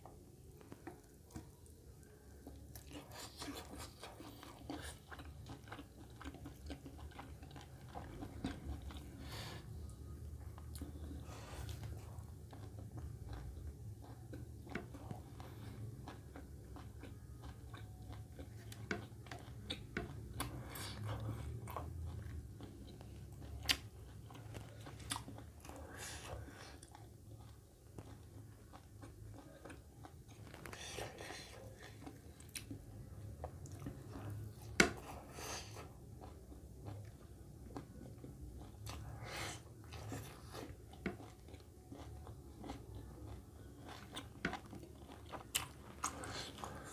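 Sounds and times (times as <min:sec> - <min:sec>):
low steady hum: 0:00.0 - 0:46.9
person chewing food: 0:00.0 - 0:46.9.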